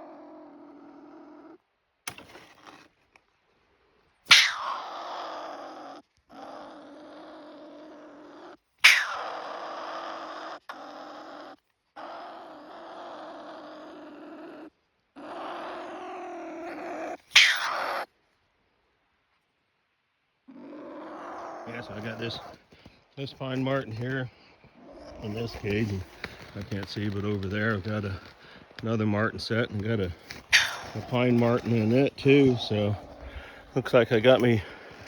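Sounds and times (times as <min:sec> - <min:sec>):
pine marten growling: 0:00.0 - 0:01.6, 0:04.3 - 0:18.1, 0:20.5 - 0:35.0.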